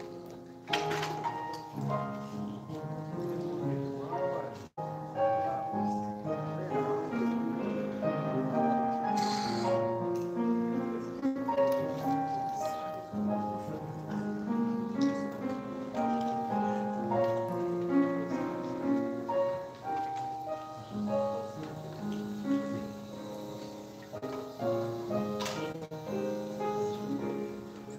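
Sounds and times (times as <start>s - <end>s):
grand piano playing slow piece: 0.0s - 27.9s.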